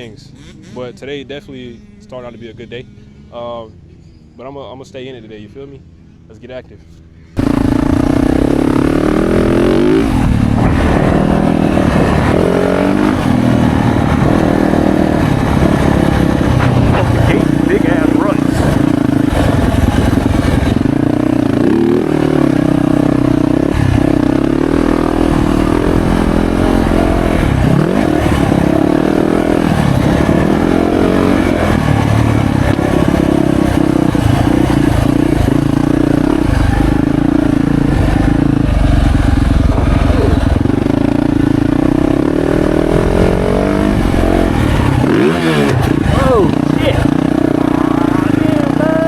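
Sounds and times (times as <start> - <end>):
motorcycle engine running hard: 7.4 - 49.0.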